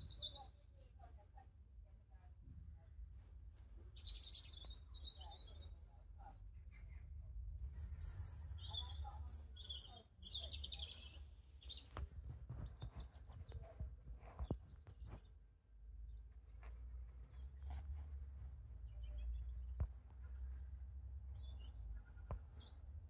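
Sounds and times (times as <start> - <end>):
small birds chirping: 0.0 - 1.2, 3.0 - 23.0.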